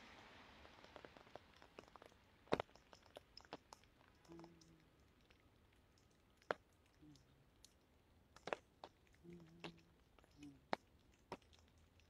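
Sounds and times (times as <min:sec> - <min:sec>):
faint low hums: 0:00.0 - 0:12.0.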